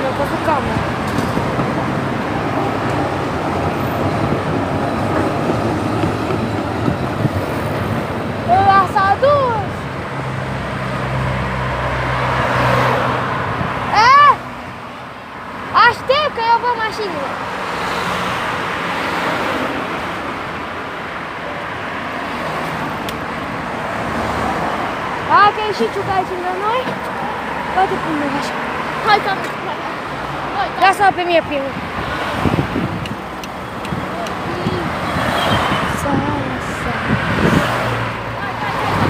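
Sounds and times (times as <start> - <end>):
road traffic rumble: 0.0 - 39.0
vehicles passing by: 0.0 - 39.0.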